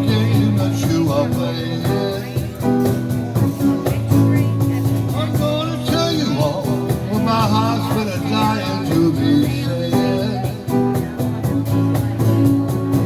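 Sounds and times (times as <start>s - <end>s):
bass: 0.0s - 13.0s
blues lead guitar line: 0.0s - 13.0s
drum beats: 0.0s - 13.0s.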